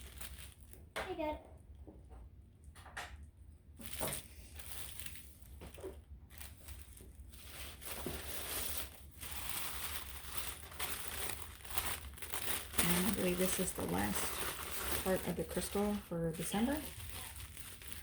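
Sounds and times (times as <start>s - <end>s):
packaging rustling and crinkling: 0.0s - 0.9s, 3.7s - 18.0s.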